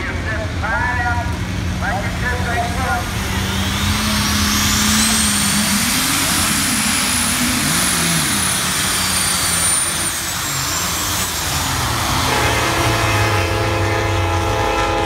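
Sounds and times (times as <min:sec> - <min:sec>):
high whine: 0:00.0 - 0:15.0
tractor engine running under load: 0:00.0 - 0:15.0.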